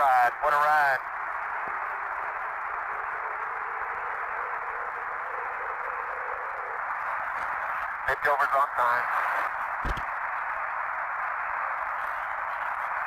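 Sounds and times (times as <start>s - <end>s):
radio channel hiss: 0.0s - 13.0s.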